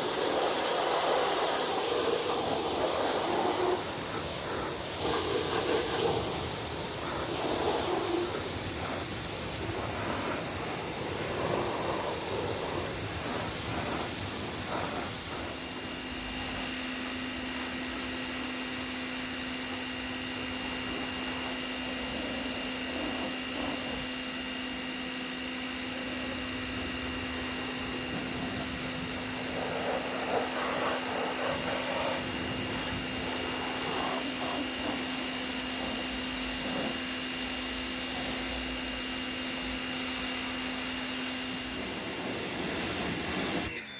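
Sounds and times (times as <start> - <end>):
pressure washer spray hissing: 0.0 - 43.9
steady electric hum: 0.0 - 43.9.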